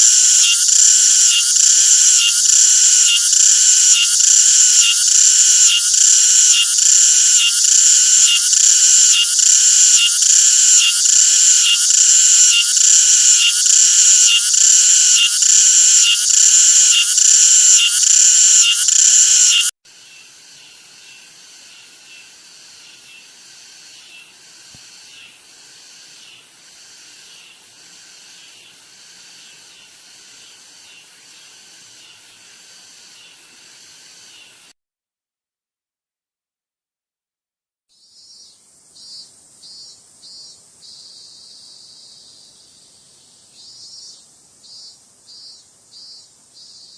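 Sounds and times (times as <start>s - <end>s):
cicadas buzzing loudly: 0.0s - 34.7s, 37.9s - 46.9s
distant cicada chorus: 0.0s - 34.7s, 37.9s - 46.9s.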